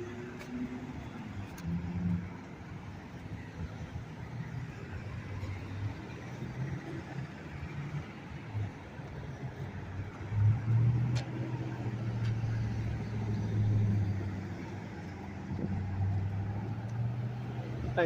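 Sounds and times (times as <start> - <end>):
cars passing with low rumble: 0.0 - 18.0.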